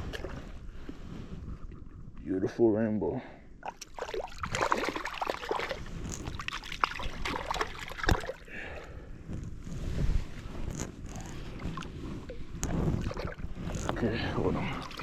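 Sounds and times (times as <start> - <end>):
water splashing and sloshing: 0.0 - 2.2, 3.6 - 9.0, 9.8 - 15.0.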